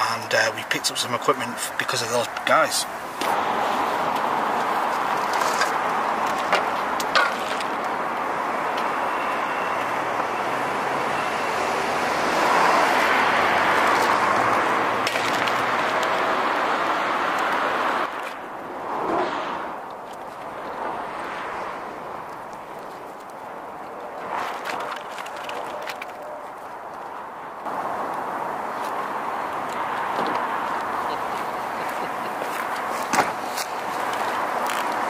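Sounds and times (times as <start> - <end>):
road traffic passing cars: 0.0 - 35.0.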